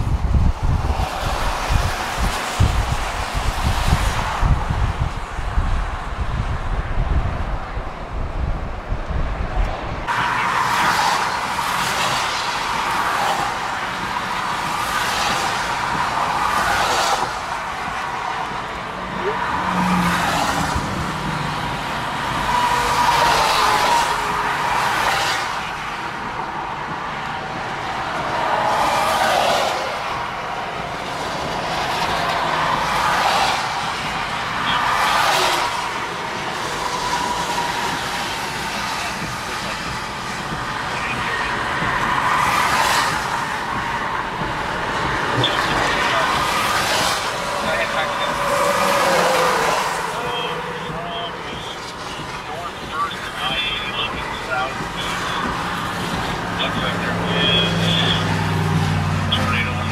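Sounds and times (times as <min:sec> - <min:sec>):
vehicles passing with tyre hiss: 0:10.0 - 0:59.9.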